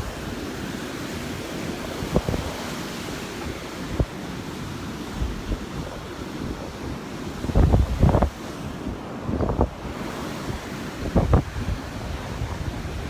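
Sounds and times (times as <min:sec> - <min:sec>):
surf washing in: 0:00.0 - 0:13.0
wind buffeting microphone: 0:00.0 - 0:13.0.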